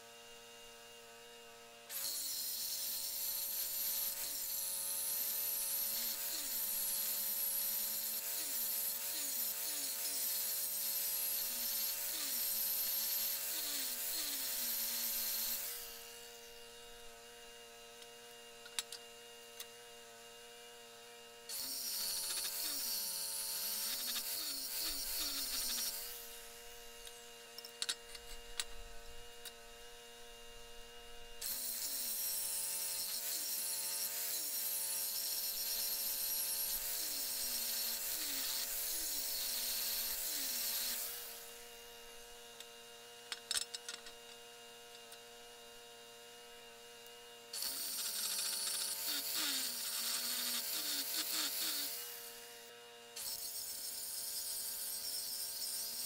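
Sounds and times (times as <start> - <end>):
power tool working steel: 0.0 - 56.0.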